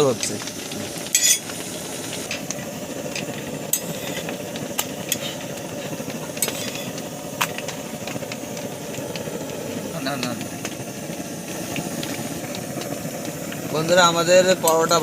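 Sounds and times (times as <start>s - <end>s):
bread sizzling in a pan: 0.0s - 15.0s.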